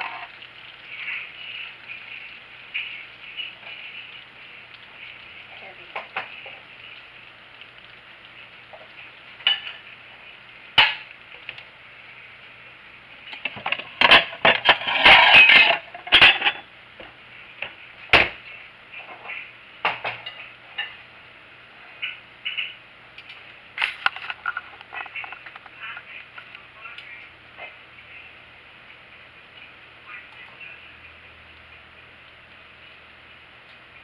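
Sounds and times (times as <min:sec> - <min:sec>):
pan juices sizzling and crackling: 0:00.0 - 0:34.0.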